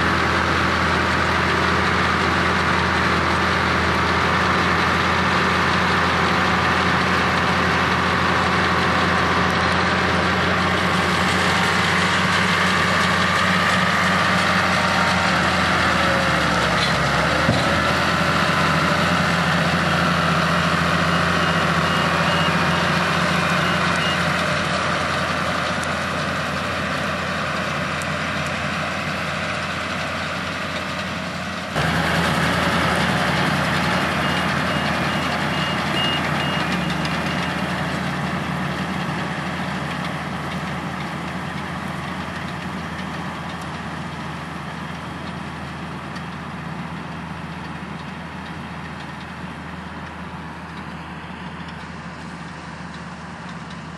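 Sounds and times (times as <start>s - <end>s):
heavy machinery engines running: 0.0s - 53.9s.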